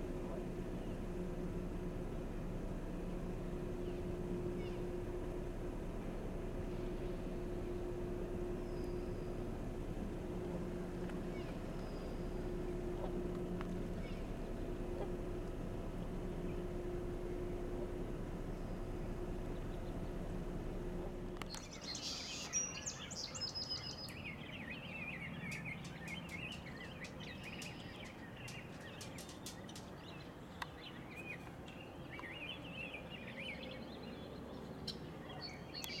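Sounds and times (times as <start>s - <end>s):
small songbirds chirping: 0.0s - 36.0s
steady low hum: 0.0s - 36.0s.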